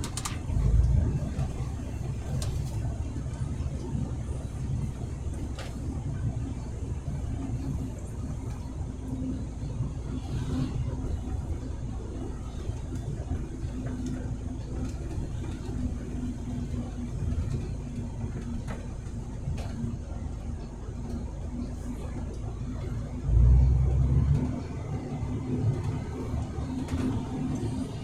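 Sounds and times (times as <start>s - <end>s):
road noise: 0.0s - 28.0s
truck engine running: 0.0s - 28.0s.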